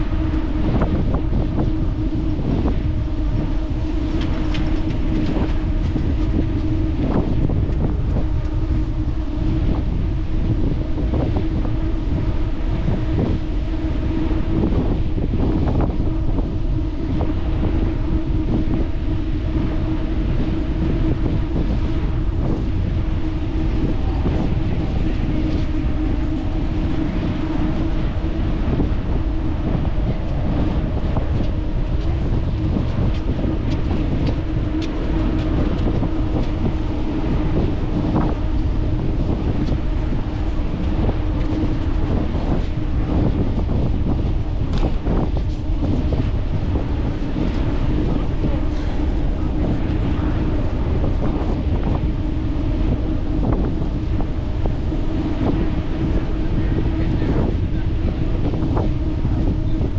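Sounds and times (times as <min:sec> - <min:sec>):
continuous low hum: 0:00.0 - 0:59.9
wind buffeting microphone: 0:00.0 - 0:59.9.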